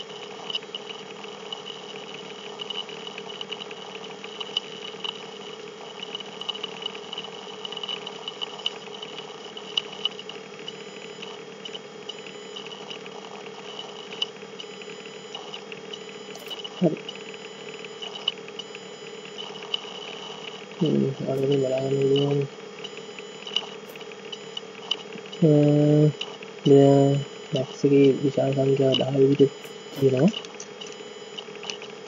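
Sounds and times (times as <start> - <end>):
faint crackles and clicks: 0.0 - 25.5, 26.1 - 32.0
microphone hiss and hum: 1.2 - 32.0.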